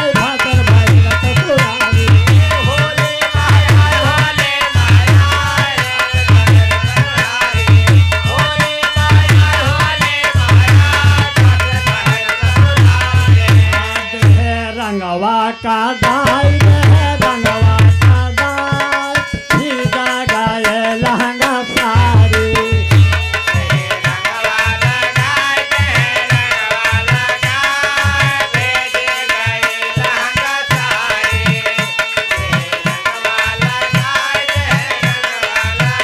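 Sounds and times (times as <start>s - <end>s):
dholak drum beat: 0.0s - 36.0s
harmonium melody: 0.0s - 36.0s.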